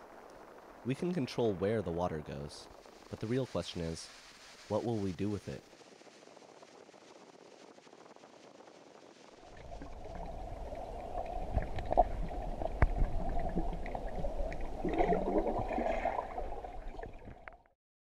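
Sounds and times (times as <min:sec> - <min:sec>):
underwater flowing water rumble: 0:00.0 - 0:17.7.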